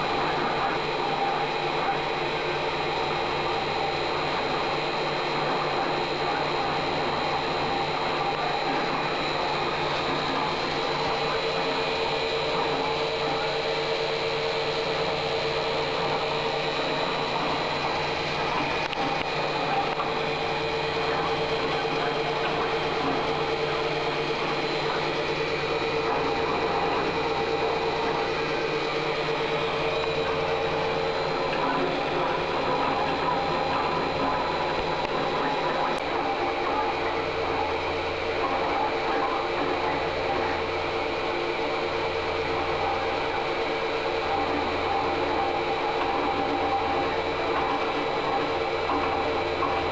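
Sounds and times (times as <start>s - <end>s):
mid-pitched hum: 0.0s - 49.9s
milling machine running: 0.0s - 49.9s
high whine: 7.3s - 49.9s.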